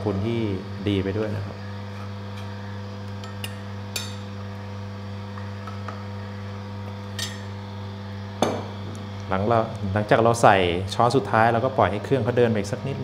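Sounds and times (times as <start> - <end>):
juicer motor humming: 0.0 - 13.0.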